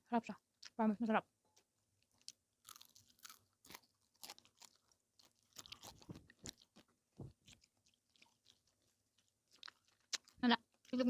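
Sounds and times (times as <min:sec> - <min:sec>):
person chewing food: 0:01.5 - 0:11.0.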